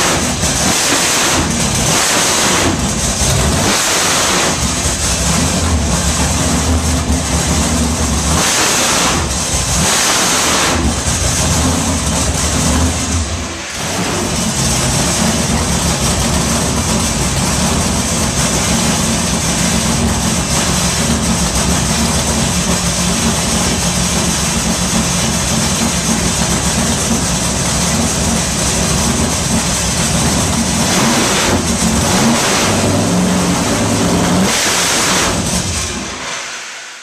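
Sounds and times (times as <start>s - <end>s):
engine running and revving: 0.0s - 36.7s.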